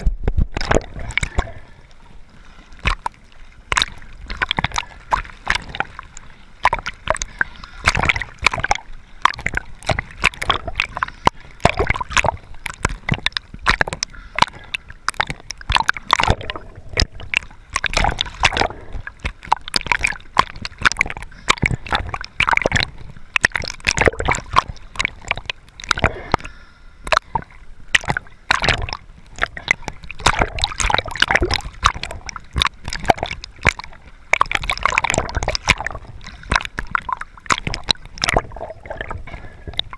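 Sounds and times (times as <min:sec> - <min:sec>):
sea water splashing: 0:00.0 - 0:39.9.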